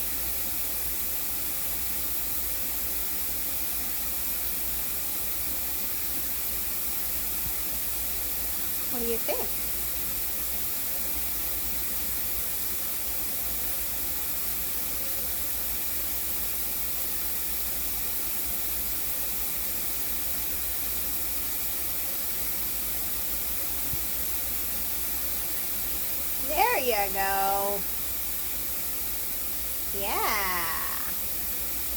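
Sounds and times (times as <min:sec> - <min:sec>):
shower spray hissing: 0:00.0 - 0:31.9.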